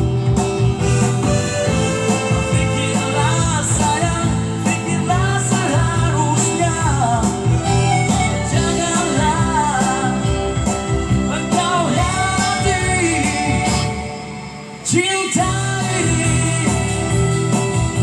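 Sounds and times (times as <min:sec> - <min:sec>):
band with guitar: 0:00.0 - 0:18.0
person singing: 0:01.2 - 0:18.0.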